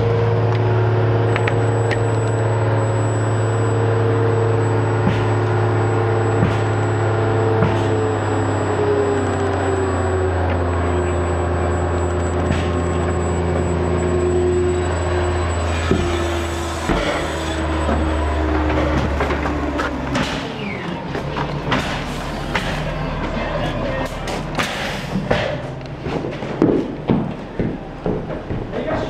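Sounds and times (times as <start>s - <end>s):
diesel crane engine droning: 0.0s - 29.0s.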